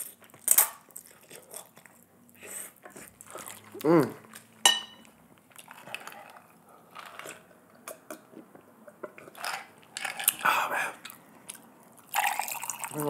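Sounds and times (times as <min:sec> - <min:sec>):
person chewing: 0:00.0 - 0:12.9.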